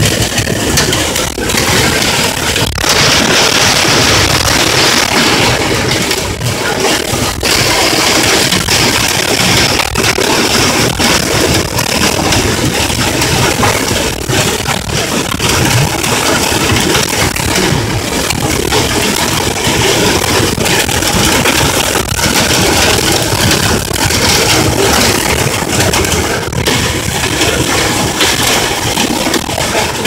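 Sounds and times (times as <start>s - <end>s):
hail and rain pounding car roof: 0.0s - 30.0s.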